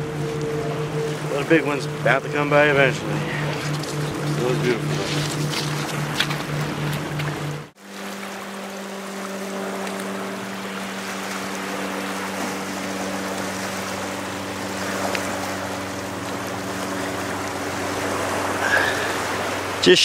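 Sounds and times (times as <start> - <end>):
constant low hum: 0.0 - 20.0
shoreline water: 0.0 - 20.0
wind: 0.0 - 20.0.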